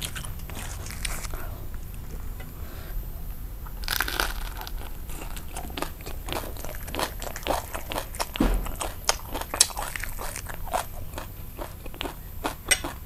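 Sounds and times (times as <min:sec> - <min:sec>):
crunchy biting and chewing: 0:00.0 - 0:02.6, 0:03.6 - 0:13.0.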